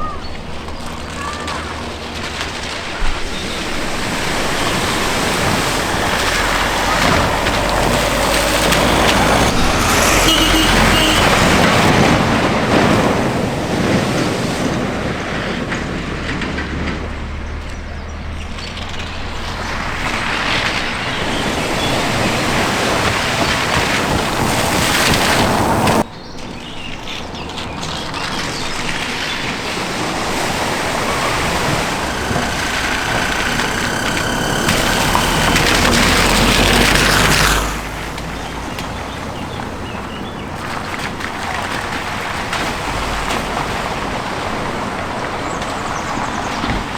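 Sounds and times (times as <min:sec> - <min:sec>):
water rushing and splashing: 0:00.0 - 0:17.4, 0:18.3 - 0:26.1, 0:27.8 - 0:46.9
vehicle engine noise: 0:00.0 - 0:26.1, 0:27.4 - 0:46.9.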